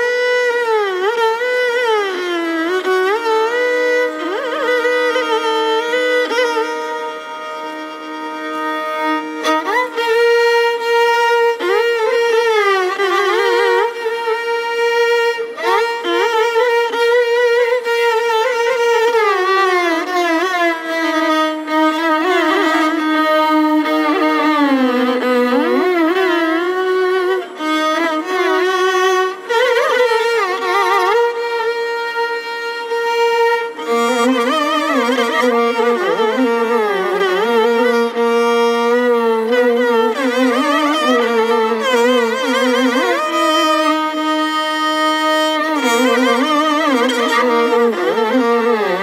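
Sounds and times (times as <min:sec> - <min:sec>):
two violins playing: 0:00.0 - 0:49.0.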